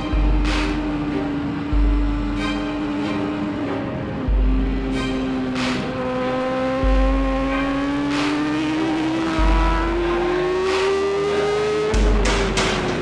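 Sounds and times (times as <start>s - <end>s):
motorcycle engine at full throttle: 0.0s - 13.0s.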